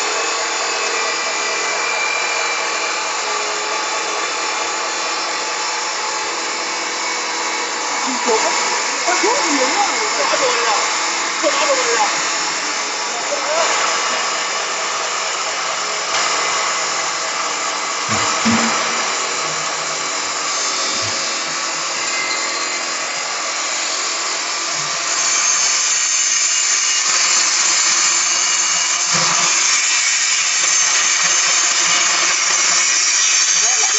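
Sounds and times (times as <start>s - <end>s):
pellet mill whining: 0.0s - 33.9s.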